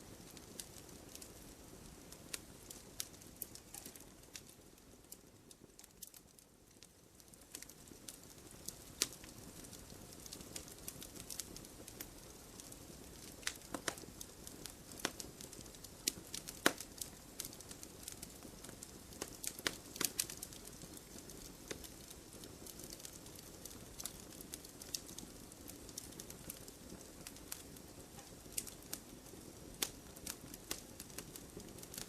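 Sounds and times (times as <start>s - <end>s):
wood fire snapping and popping: 0.0s - 32.0s.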